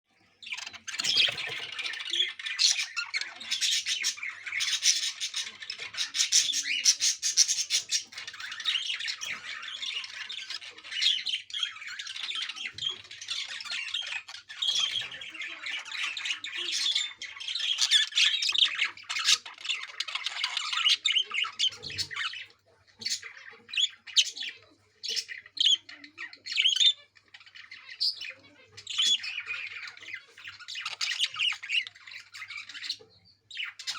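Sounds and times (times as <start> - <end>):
budgerigars chattering and squawking: 0.2 - 33.9.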